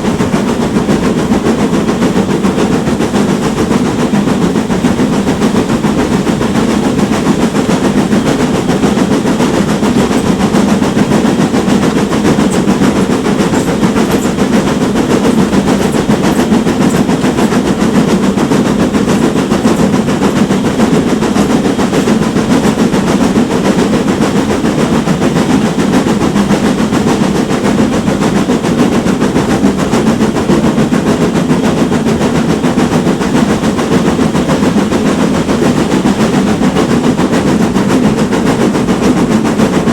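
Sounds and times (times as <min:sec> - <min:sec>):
steam train rumbling on rails: 0:00.0 - 0:39.9.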